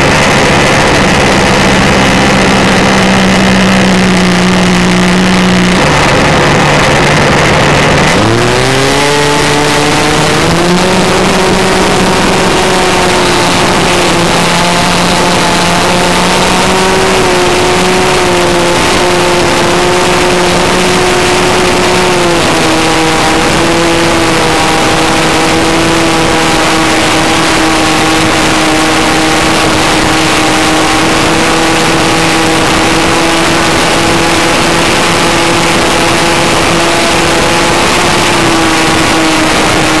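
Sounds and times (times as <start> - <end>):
model airplane engine: 0.0 - 40.0.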